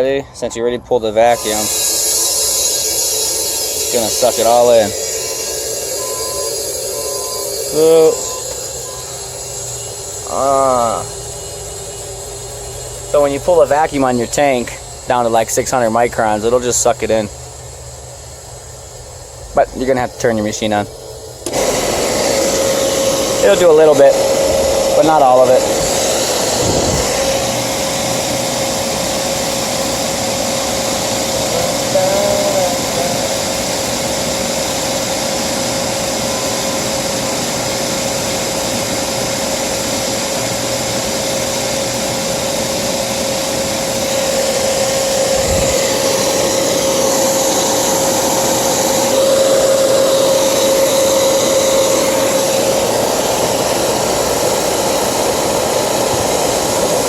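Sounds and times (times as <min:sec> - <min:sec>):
constant whine: 0:00.0 - 0:57.0
recovery machine running: 0:00.2 - 0:57.0.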